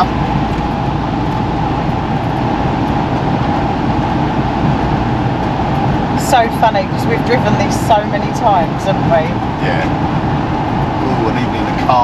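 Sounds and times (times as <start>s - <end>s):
constant tone: 0.0s - 12.0s
road and engine noise: 0.0s - 12.0s.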